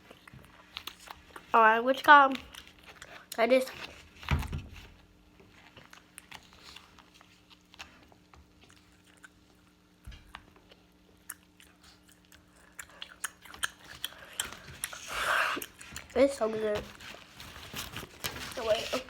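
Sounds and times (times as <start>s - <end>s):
biting and chewing chicken: 0.0s - 18.8s.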